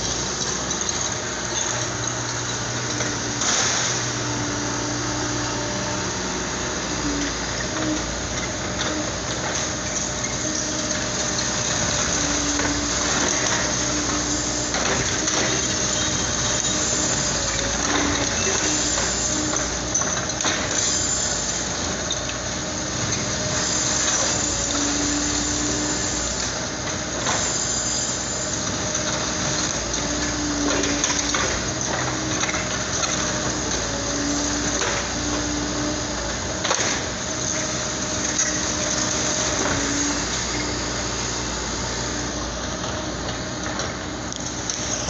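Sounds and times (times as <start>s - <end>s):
excavator engine and hydraulics hum: 0.0s - 45.0s.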